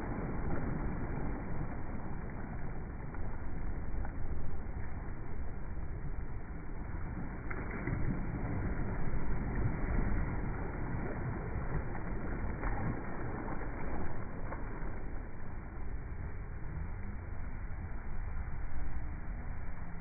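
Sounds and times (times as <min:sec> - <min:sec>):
small waves lapping on sand: 0:00.0 - 0:16.9
wind rumble on microphone: 0:00.0 - 0:20.0.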